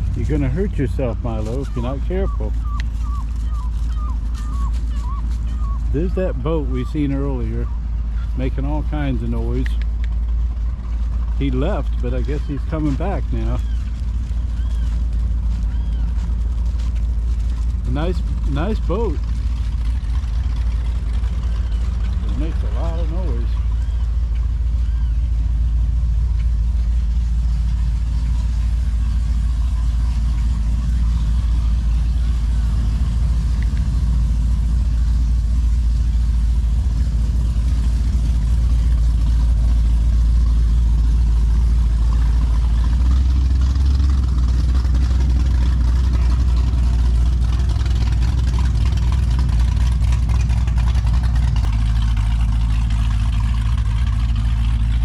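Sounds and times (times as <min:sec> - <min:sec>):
motorboat engine rumbling: 0:00.0 - 0:55.0.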